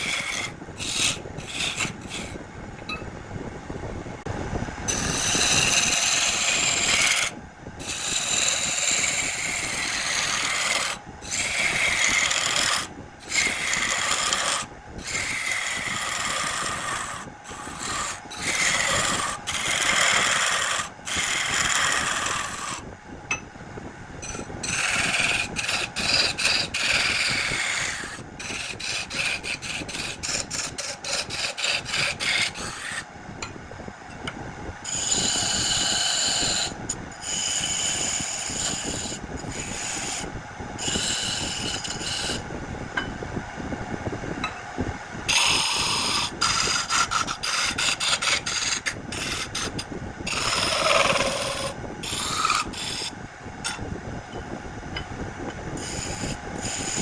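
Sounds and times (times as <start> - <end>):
tool rasping wood on a lathe: 0.0 - 2.4, 4.9 - 22.8, 24.2 - 33.1, 34.8 - 42.5, 45.3 - 53.2, 55.8 - 57.0.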